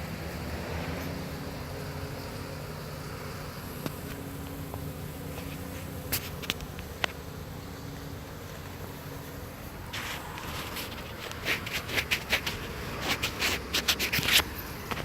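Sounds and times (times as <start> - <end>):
bee swarm buzzing: 0.0 - 15.0.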